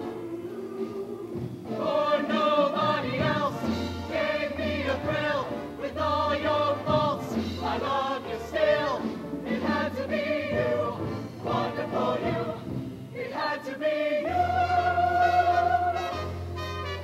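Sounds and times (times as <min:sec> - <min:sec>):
choir singing in harmony: 0:00.0 - 0:16.4.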